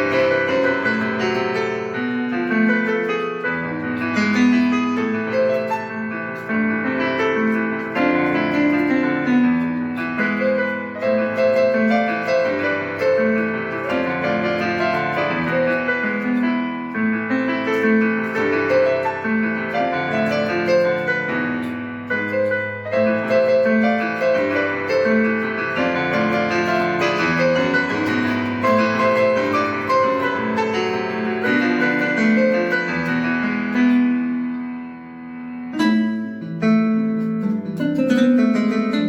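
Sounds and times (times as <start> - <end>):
piano melody over chords: 0.0 - 39.0.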